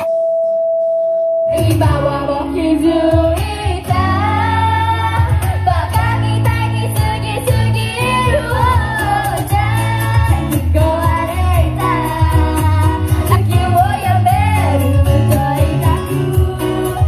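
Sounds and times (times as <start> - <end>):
heavy bass line: 0.0 - 17.0
pop song with female singing: 1.5 - 17.0.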